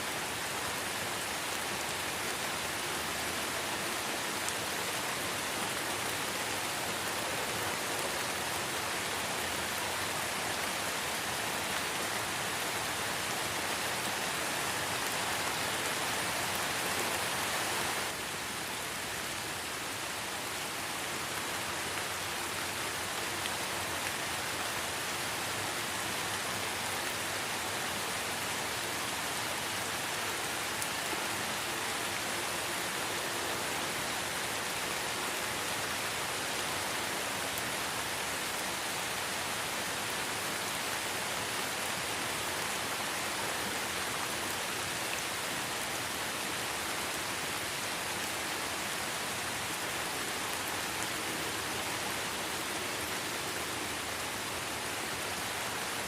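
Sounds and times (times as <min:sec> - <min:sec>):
light rain on leaves: 0:00.0 - 0:56.0.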